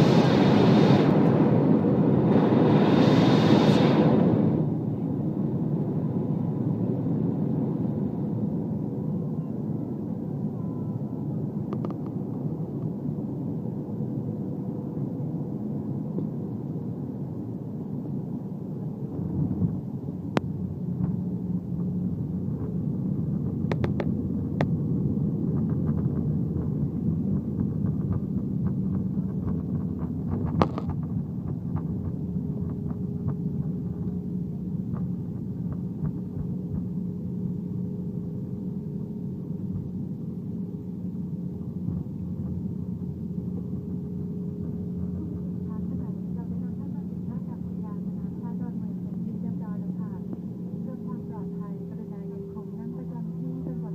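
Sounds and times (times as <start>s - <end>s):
aircraft engines and airflow rumble: 0.0s - 53.9s.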